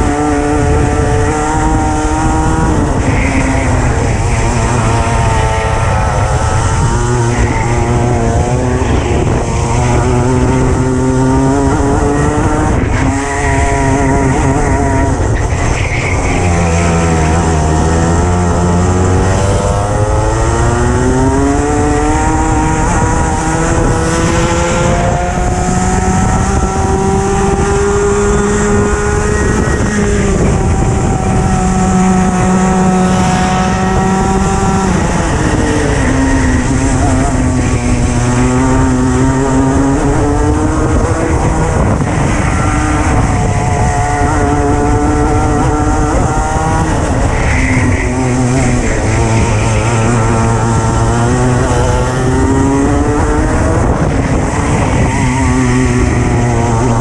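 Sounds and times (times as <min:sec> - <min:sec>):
kart engine revving: 0:00.0 - 0:57.0
wind and road noise: 0:00.0 - 0:57.0.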